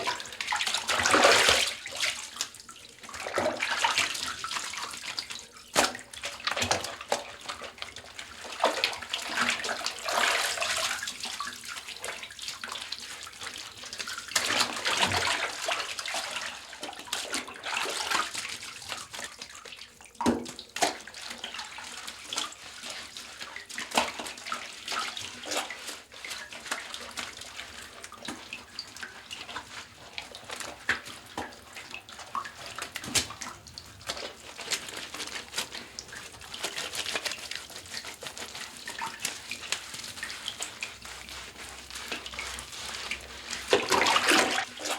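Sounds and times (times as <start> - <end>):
water splashing in bathtub: 0.0 - 44.9.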